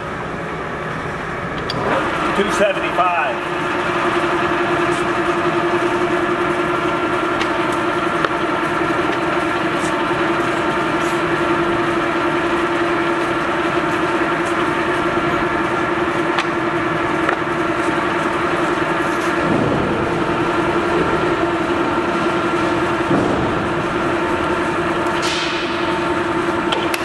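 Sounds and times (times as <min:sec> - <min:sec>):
lathe humming with whine: 0:00.0 - 0:27.0.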